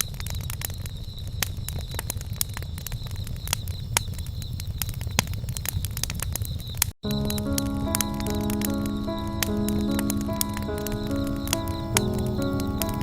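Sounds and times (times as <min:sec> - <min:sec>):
wood fire crackling: 0:00.3 - 0:13.0.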